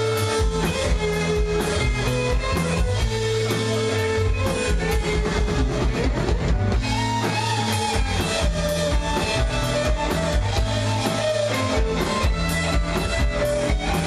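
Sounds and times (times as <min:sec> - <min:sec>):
lead guitar melody: 0:00.0 - 0:14.0
live rock band playing: 0:00.0 - 0:14.0.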